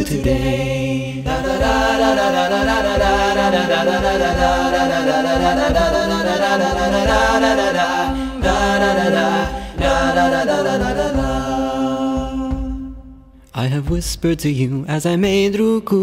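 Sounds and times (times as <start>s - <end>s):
a cappella group singing: 0.0s - 16.0s.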